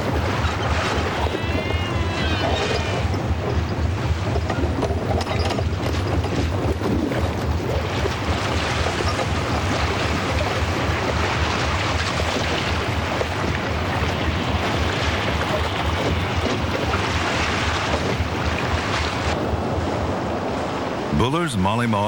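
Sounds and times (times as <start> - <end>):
sea noise: 0.0 - 22.0
wind: 0.0 - 22.0.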